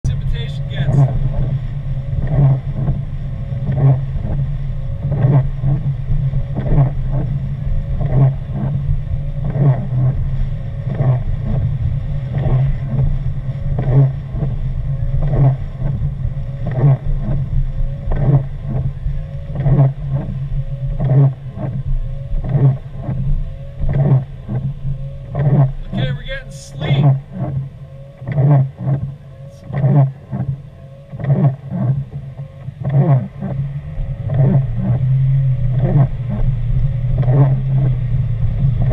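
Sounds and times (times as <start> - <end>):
car engine and road rumble: 0.0 - 38.9
windshield wipers sweeping: 0.1 - 38.9.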